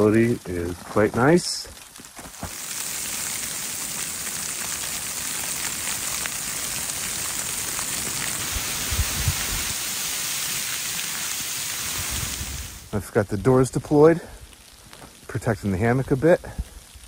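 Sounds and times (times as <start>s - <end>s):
drizzle pattering on a tarp: 0.0s - 17.0s.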